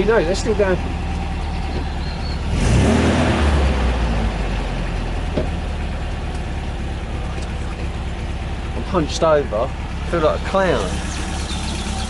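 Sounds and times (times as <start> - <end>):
sports car engine idling and revving: 0.0 - 12.0.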